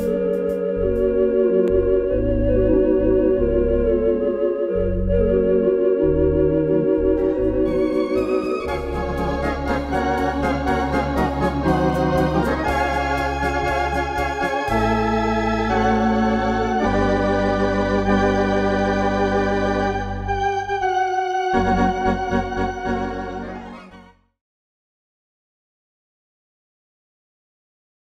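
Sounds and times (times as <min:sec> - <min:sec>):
light ticking rhythm accompaniment: 0:00.0 - 0:05.8, 0:06.6 - 0:23.6
deep organ bass notes: 0:00.0 - 0:24.2
electronic organ chords with vibrato: 0:00.0 - 0:24.2.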